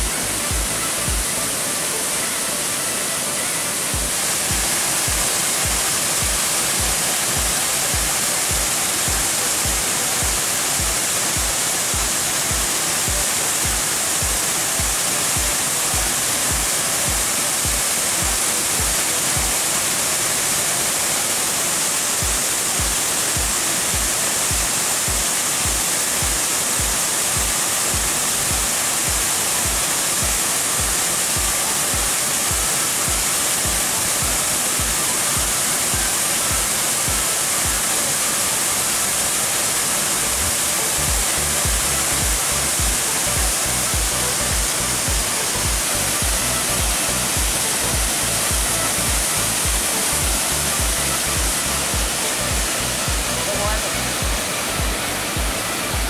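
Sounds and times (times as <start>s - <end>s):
background music with low beat: 0.0s - 1.7s, 3.9s - 19.6s, 22.2s - 37.8s, 40.4s - 56.0s
waterfall rushing: 0.0s - 56.0s.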